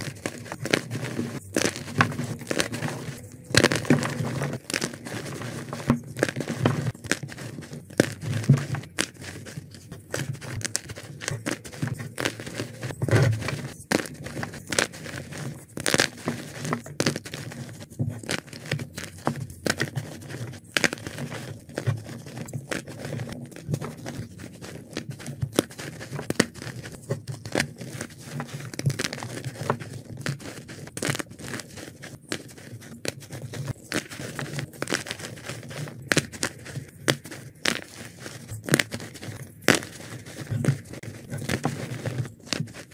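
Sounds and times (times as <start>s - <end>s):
chalk crunching and crackling: 0.0s - 42.9s
powdery rustling: 0.0s - 42.9s.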